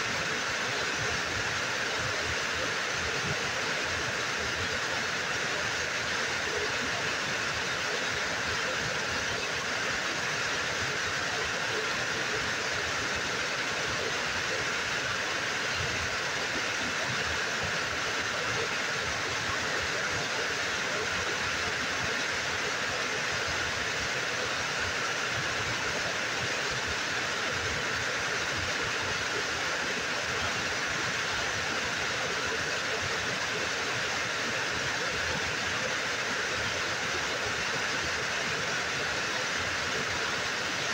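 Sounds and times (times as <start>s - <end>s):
waterfall hiss: 0.0s - 40.9s.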